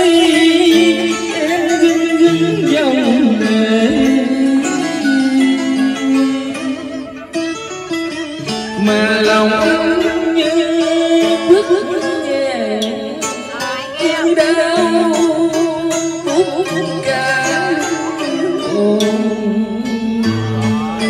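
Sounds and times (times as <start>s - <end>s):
plucked string instrument melody: 0.0s - 21.0s.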